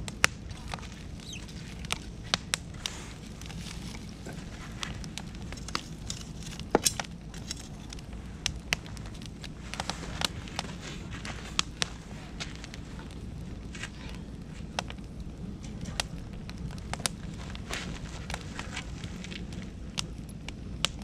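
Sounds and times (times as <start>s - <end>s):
bonfire crackling and popping: 0.0s - 21.0s
low fire rumble: 0.0s - 21.0s.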